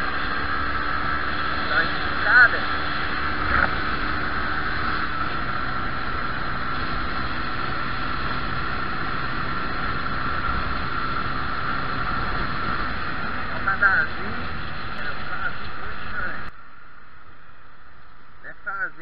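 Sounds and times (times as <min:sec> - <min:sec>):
wind noise: 0:00.0 - 0:16.5
motorcycle engine cruising: 0:00.0 - 0:18.4
road noise: 0:00.0 - 0:19.0.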